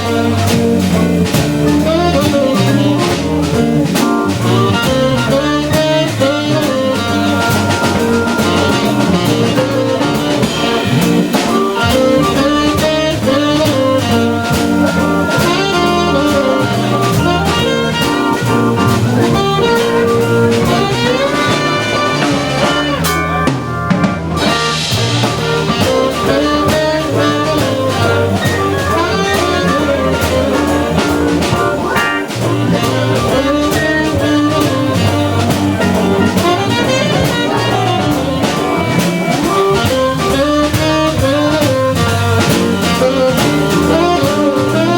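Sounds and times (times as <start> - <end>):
drum kit: 0.0 - 44.9
electric guitar: 0.0 - 44.9
organ: 0.0 - 44.9
tenor saxophone: 0.0 - 44.9.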